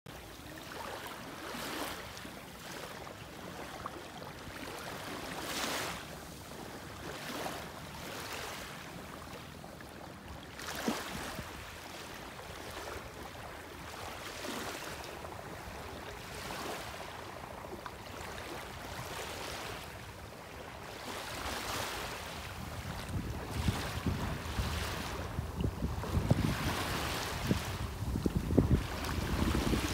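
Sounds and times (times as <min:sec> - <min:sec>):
small waves lapping on shore: 0:00.1 - 0:29.9.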